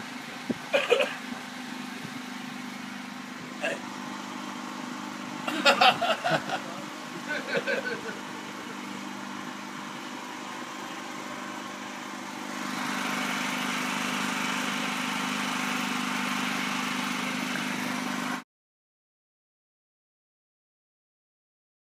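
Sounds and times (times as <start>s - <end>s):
engine humming: 0.0s - 18.4s.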